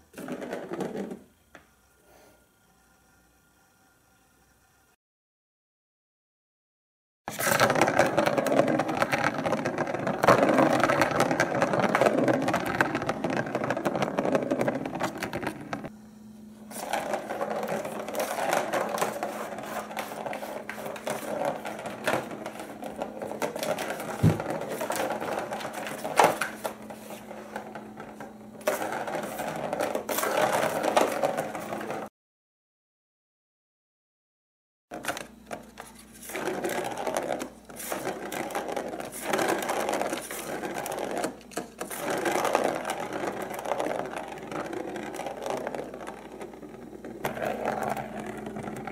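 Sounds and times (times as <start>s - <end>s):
plastic ball rolling and rattling: 0.0s - 1.6s, 7.3s - 16.0s, 16.6s - 32.1s, 34.9s - 48.9s.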